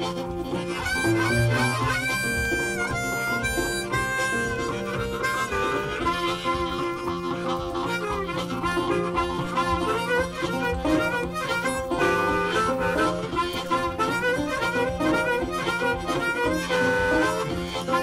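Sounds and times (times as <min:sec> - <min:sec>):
upbeat blues harmonica music: 0:00.0 - 0:18.0.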